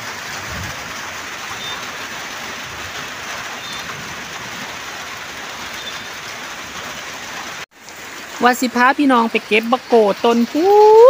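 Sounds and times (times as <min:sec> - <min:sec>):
rain falling on puddles: 0:00.0 - 0:11.0.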